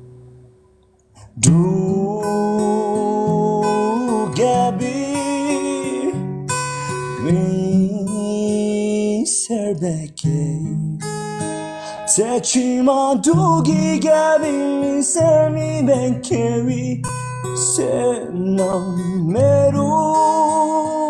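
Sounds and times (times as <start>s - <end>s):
acoustic guitar: 0.0s - 21.0s
person singing: 1.2s - 6.2s, 7.2s - 10.8s, 11.4s - 21.0s.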